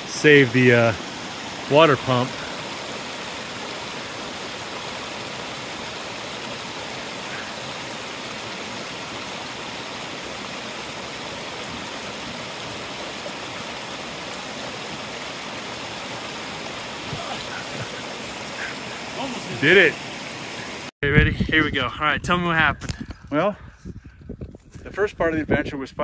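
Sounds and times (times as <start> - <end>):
creek rushing over rocks: 0.0 - 20.9.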